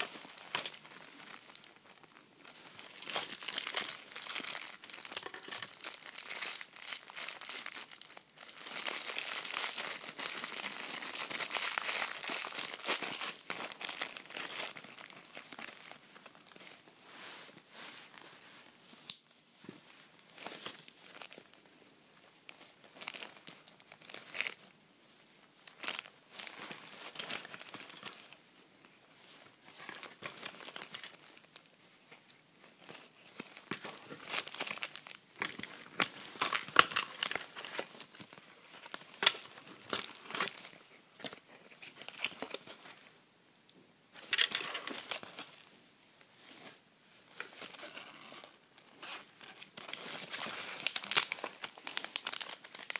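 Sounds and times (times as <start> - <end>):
plastic packaging crinkling: 0.0 - 16.9, 20.4 - 21.7, 22.5 - 24.7, 25.6 - 28.4, 29.7 - 31.7, 32.7 - 42.9, 44.2 - 45.7, 47.3 - 52.9.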